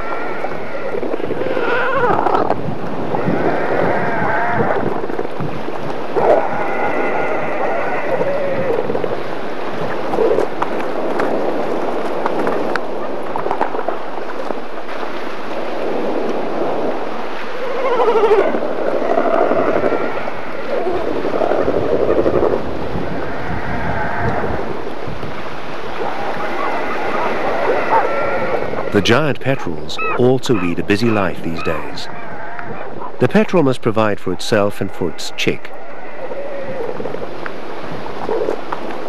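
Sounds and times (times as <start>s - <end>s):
surf: 0.0s - 39.0s
wind: 0.0s - 39.0s.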